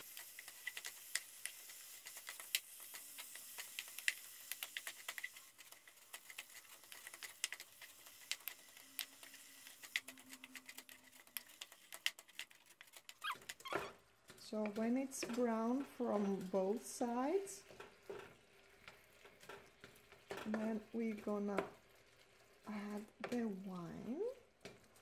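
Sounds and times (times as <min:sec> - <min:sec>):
faint sizzle: 0:00.0 - 0:12.0, 0:13.2 - 0:25.0.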